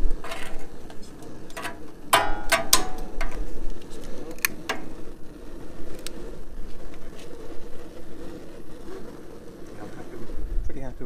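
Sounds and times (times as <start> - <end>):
gas burners rushing: 0.0 - 11.0.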